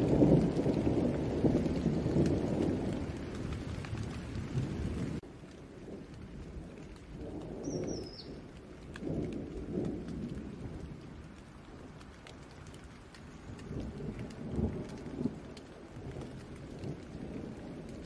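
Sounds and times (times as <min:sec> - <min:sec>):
distant thunder rumbling: 0:00.0 - 0:18.0
steady rain: 0:00.0 - 0:18.0.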